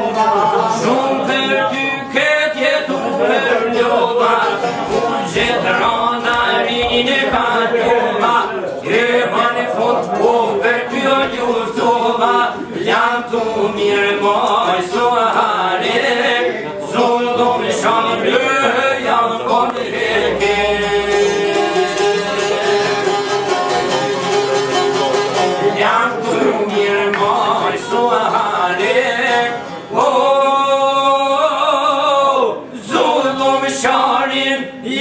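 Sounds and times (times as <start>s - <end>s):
plucked lutes strumming: 0.0s - 31.4s
men singing: 0.0s - 35.0s.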